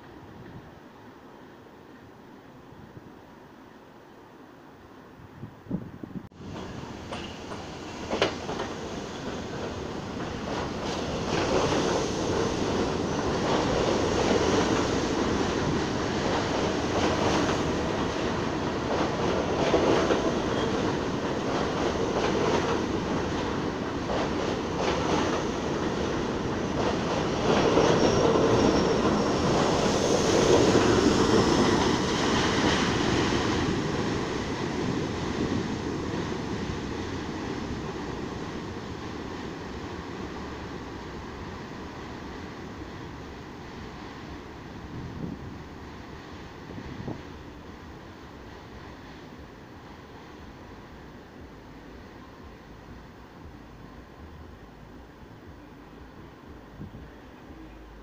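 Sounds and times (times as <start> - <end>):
subway train rumbling past: 0.0 - 58.0.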